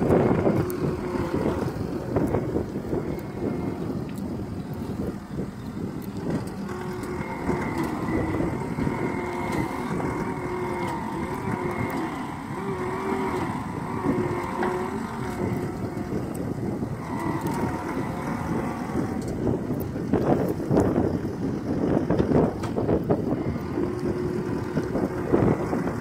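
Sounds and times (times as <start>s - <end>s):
diesel engine under load: 0.0s - 26.0s
hydraulic whine: 0.0s - 26.0s.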